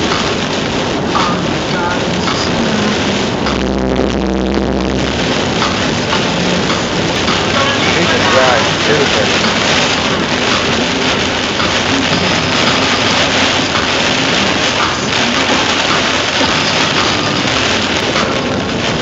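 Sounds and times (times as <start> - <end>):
heavy rain on windshield: 0.0 - 19.0.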